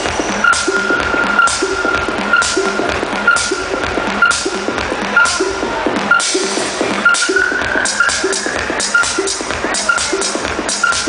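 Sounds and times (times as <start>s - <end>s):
techno music with steady beat: 0.0s - 11.0s.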